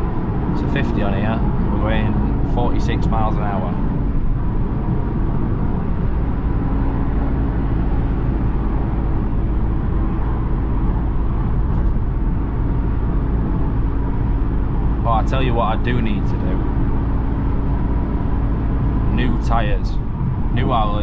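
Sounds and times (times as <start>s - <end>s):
car engine drone: 0.0s - 21.0s
road and tyre noise: 0.0s - 21.0s.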